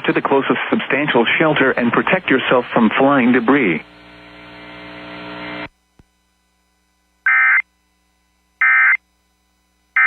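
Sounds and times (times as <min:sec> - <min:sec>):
broadcast background hum: 0:00.0 - 0:10.0.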